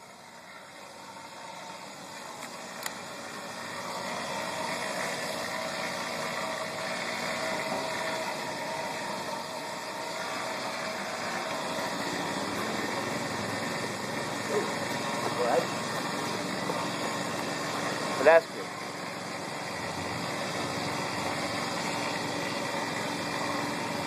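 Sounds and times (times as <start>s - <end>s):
motor running: 0.0s - 24.0s.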